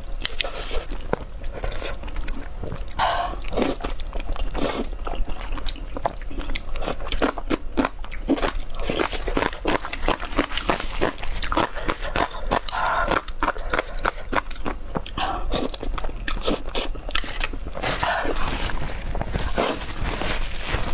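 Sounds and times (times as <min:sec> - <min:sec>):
chewing with mouth clicks and smacks: 0:00.0 - 0:20.9.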